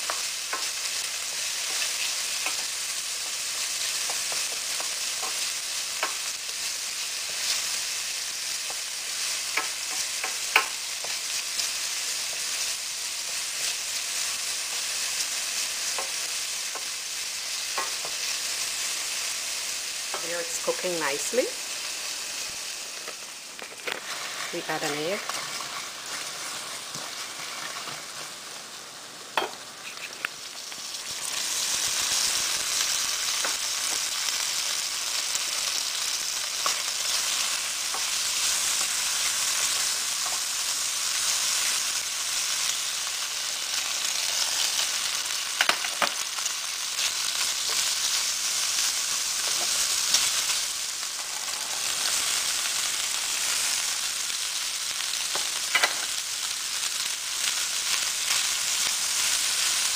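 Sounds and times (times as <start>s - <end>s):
oil sizzling in frying pan: 0.0s - 59.9s.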